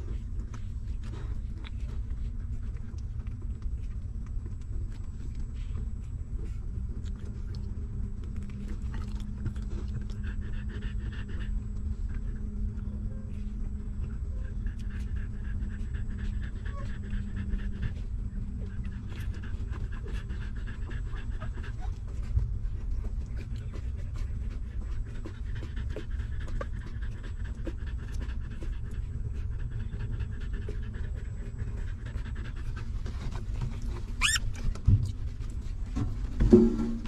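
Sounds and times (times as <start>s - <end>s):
dog panting rapidly: 0.0s - 37.0s.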